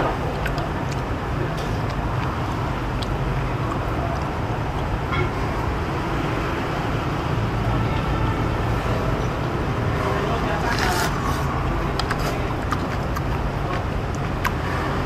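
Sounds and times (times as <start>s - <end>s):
rumbling background noise: 0.0s - 15.0s.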